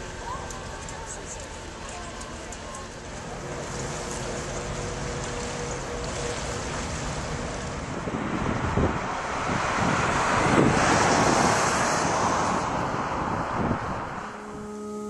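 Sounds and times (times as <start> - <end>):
wind buffeting microphone: 2.5 - 14.7.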